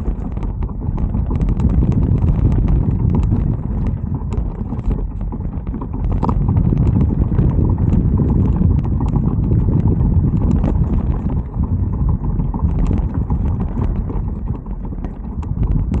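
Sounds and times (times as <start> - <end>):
hub motor ticking: 0.0 - 16.0
wind rumble on microphone: 0.0 - 16.0.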